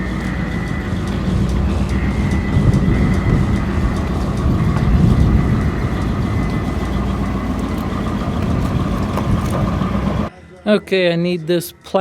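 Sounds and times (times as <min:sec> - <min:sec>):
engine deep rumble: 0:00.0 - 0:10.3.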